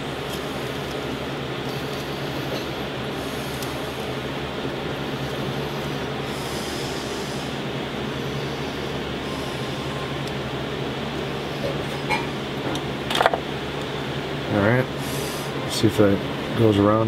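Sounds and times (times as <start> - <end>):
room noise hiss: 0.0 - 17.0
steady machine hum: 0.0 - 17.0.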